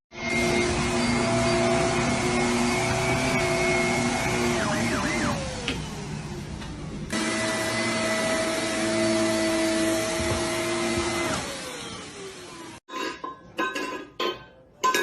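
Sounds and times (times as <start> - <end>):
electric motor humming: 0.2 - 12.8.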